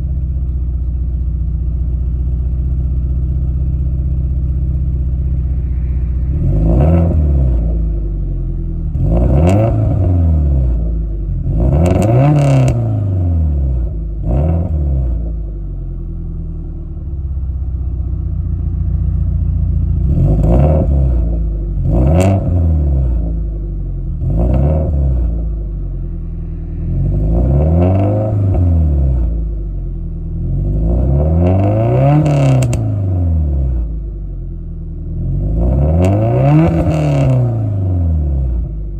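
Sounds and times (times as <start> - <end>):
car engine idling: 0.0 - 31.5, 32.7 - 35.8
car engine revving: 2.4 - 38.9.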